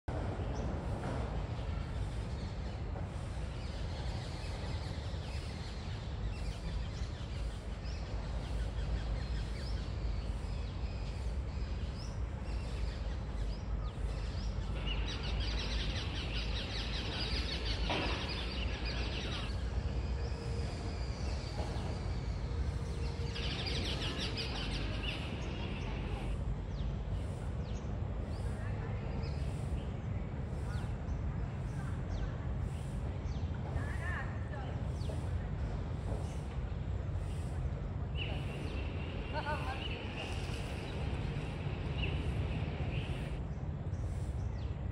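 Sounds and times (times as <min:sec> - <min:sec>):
steady low rumble: 0:00.0 - 0:44.9
birds chirping: 0:00.4 - 0:44.9.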